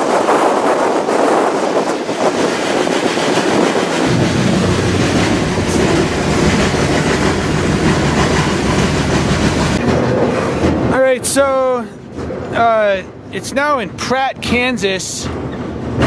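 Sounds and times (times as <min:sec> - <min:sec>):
moving freight train rumble: 0:00.0 - 0:16.0.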